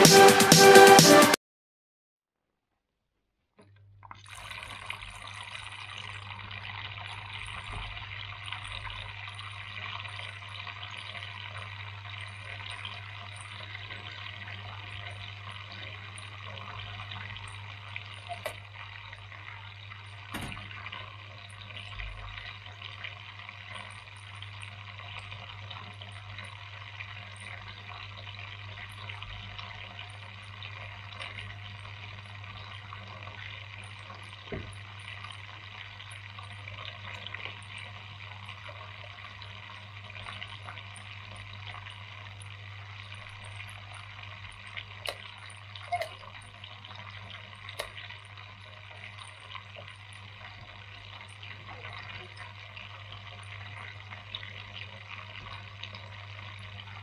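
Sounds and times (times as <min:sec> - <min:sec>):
fountain water trickling: 0:04.0 - 0:57.0.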